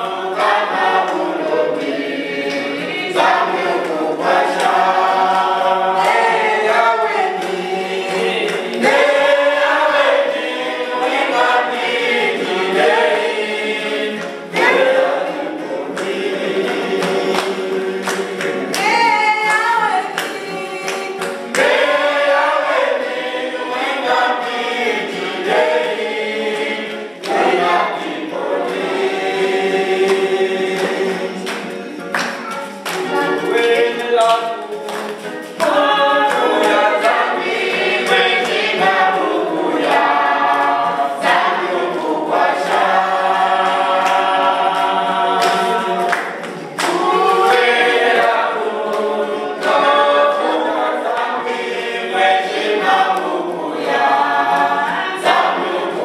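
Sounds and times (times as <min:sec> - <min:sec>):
acoustic guitar: 0:00.0 - 0:56.0
choir singing: 0:00.0 - 0:56.0.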